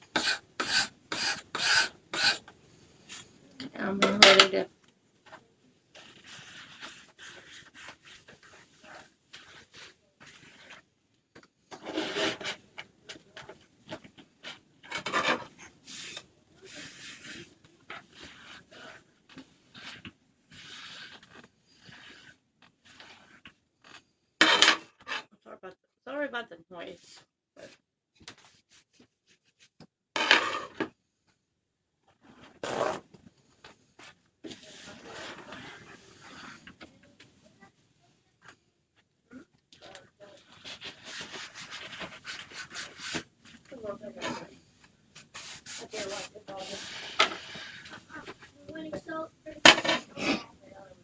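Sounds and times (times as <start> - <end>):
scraping strokes on hard surface: 0.0 - 25.3, 27.0 - 31.0, 32.1 - 37.8, 38.4 - 51.0.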